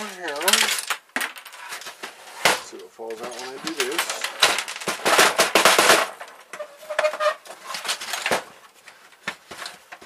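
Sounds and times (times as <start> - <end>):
small parts rattling inside plastic: 0.0 - 8.6.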